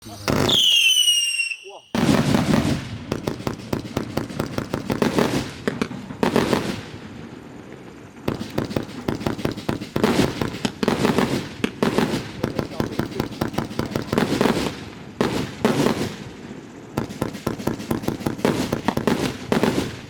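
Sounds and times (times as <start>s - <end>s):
fireworks crackling volleys: 0.0s - 20.0s.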